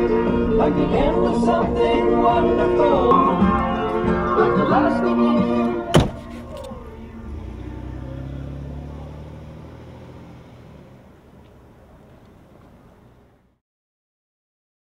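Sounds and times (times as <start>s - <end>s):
car engine driving away: 0.0s - 13.6s
road noise: 0.0s - 13.6s.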